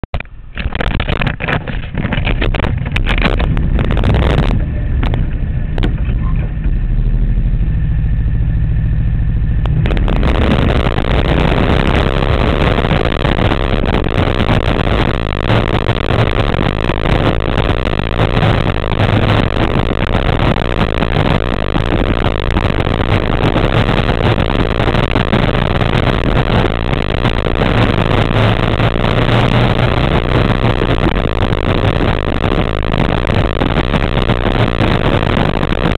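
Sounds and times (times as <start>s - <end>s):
race car engine: 0.2s - 35.9s.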